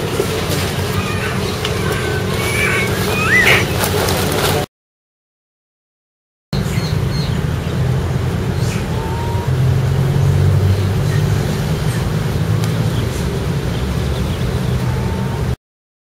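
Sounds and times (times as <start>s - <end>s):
low rumble of road traffic: 0.0s - 4.7s, 6.6s - 15.6s.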